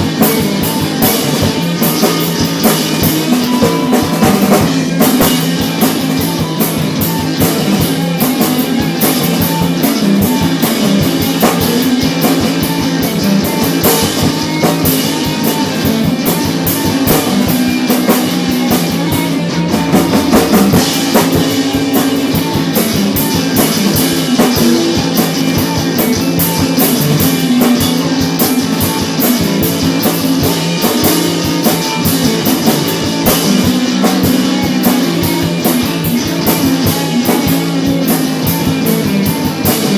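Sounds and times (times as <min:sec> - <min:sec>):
drum kit steady beat: 0:00.0 - 0:39.9
rock band playing: 0:00.0 - 0:39.9.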